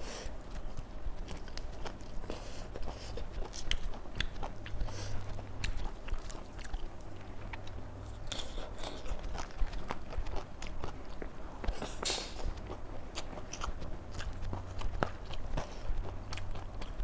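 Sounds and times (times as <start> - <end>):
person chewing crisp vegetables: 0.0 - 17.0.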